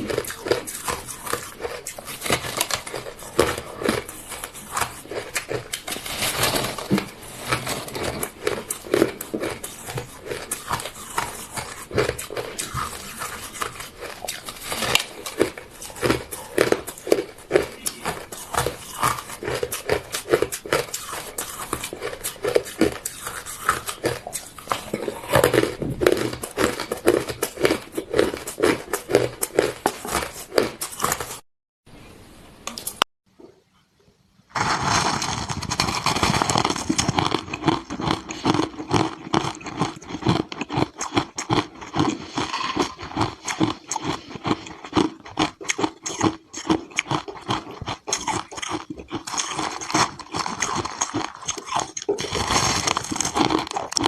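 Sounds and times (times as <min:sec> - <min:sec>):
ice crunching being chewed: 0:00.0 - 0:31.4, 0:34.6 - 0:54.0.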